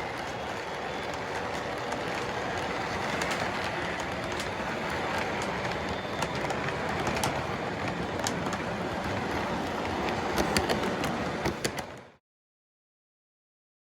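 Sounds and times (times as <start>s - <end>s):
model train rumbling: 0.0s - 12.2s
wheels clicking over rail joints: 0.0s - 12.2s.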